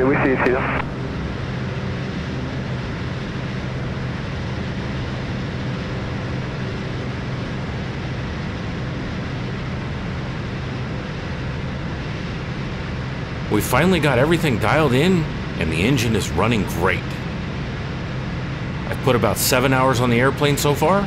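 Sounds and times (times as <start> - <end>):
airplane engine and propeller drone: 0.0 - 21.0.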